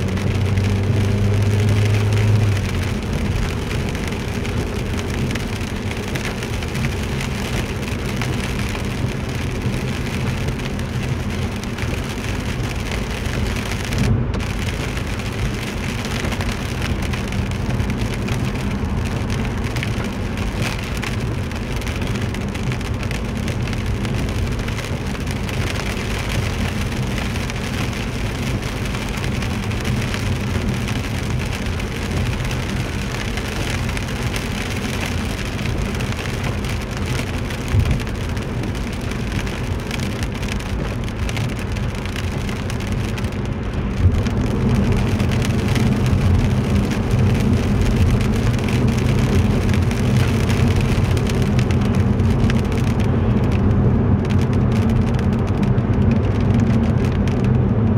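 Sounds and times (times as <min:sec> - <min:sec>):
tyres hissing on wet road: 0:00.0 - 0:57.2
low road rumble: 0:00.0 - 0:57.9
rain on a car: 0:00.0 - 0:57.9.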